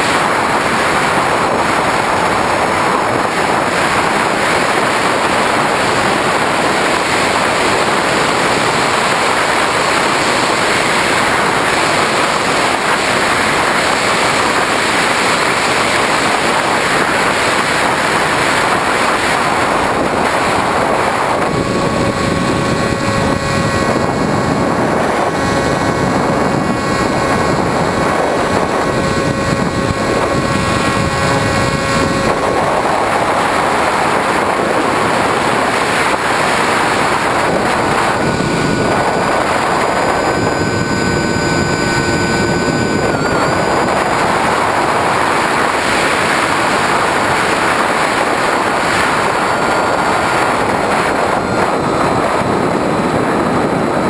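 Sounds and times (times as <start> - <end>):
electric motor and propeller whining: 0.0 - 54.0
wind rushing over microphone: 0.0 - 54.0.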